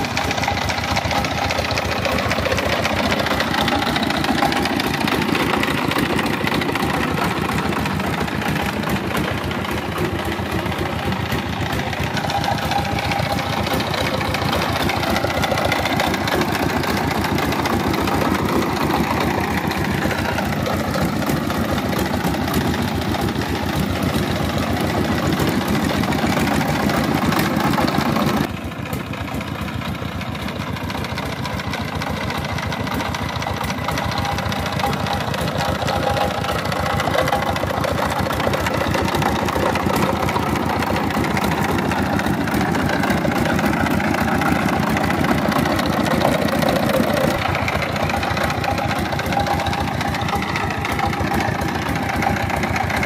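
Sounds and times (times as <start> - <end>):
diesel power tiller engine running: 0.0 - 53.0.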